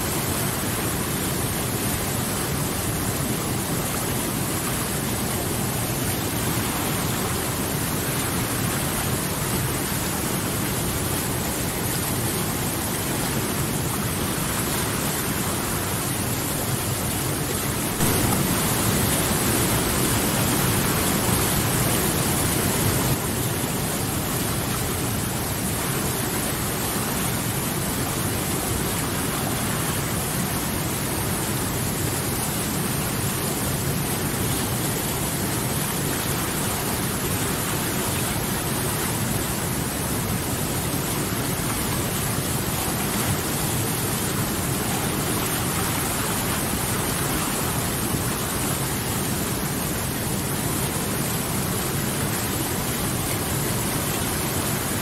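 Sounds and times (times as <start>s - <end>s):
river rapids roaring over boulders: 0.0s - 55.0s.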